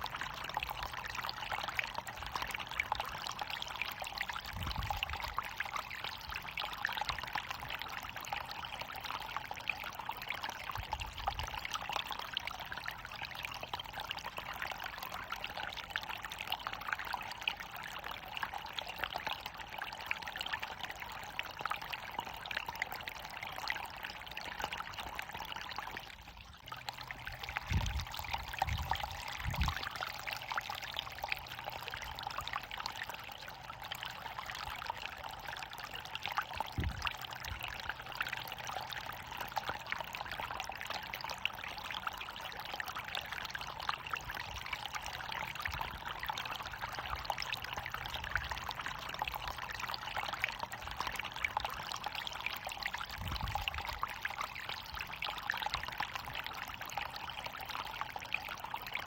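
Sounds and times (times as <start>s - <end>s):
running water pouring and trickling: 0.0s - 59.0s.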